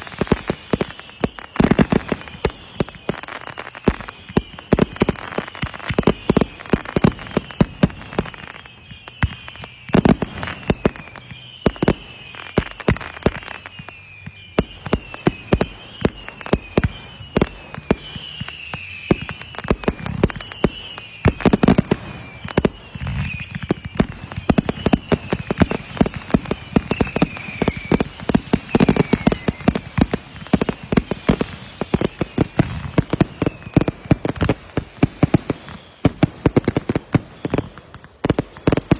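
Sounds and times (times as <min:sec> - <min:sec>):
falling whistles: 0:00.0 - 0:38.9
fireworks bangs and crackling: 0:00.0 - 0:38.9.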